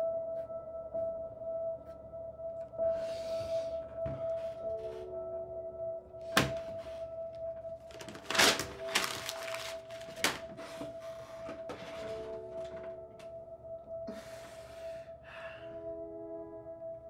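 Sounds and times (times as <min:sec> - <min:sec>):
ambient music drone: 0:00.0 - 0:17.0.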